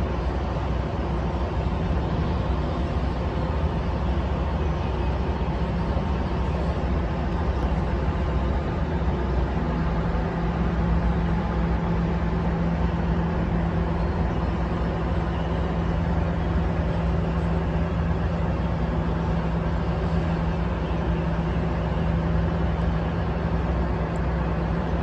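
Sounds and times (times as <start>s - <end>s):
low engine drone: 0.0s - 25.0s
road traffic rumble on a bridge: 0.0s - 25.0s.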